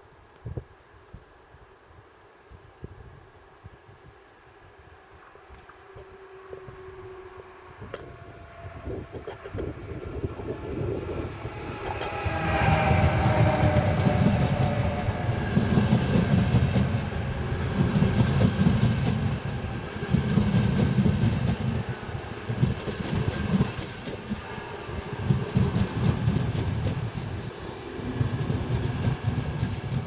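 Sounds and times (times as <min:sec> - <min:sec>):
train rumbling past: 0:04.4 - 0:30.0.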